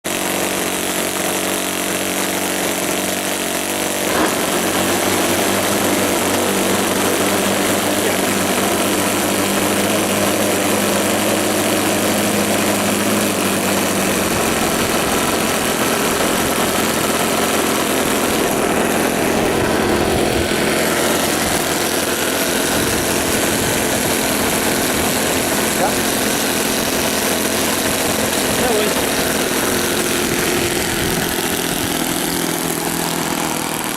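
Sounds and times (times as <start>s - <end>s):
model airplane engines running: 0.0s - 33.9s.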